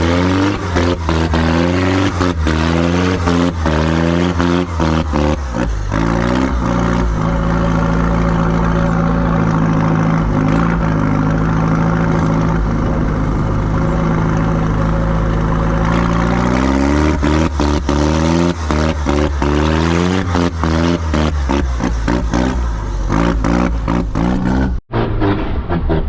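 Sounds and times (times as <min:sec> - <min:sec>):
off-road vehicle engine: 0:00.0 - 0:26.0.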